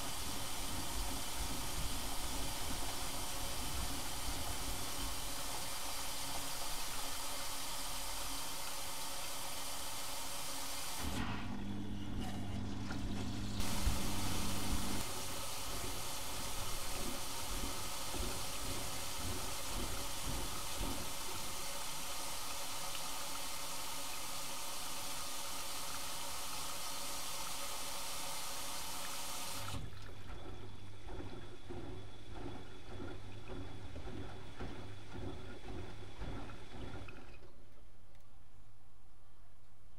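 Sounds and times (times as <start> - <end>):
water rushing into washing machine: 0.0 - 38.0.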